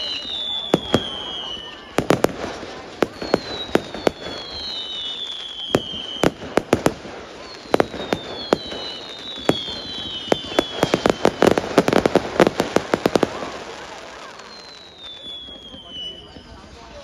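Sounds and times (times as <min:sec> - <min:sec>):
fireworks banging: 0:00.0 - 0:16.9
fireworks whistles falling in pitch: 0:00.0 - 0:17.0.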